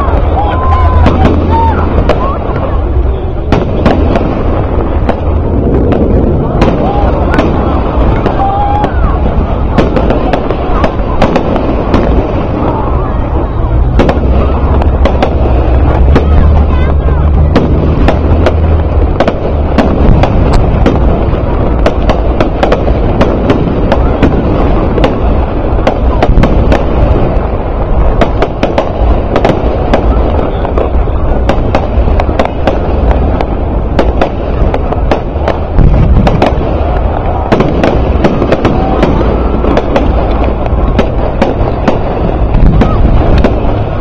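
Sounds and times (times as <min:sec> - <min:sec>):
fireworks low rumble: 0:00.0 - 0:44.0
fireworks popping and crackling: 0:00.0 - 0:44.0.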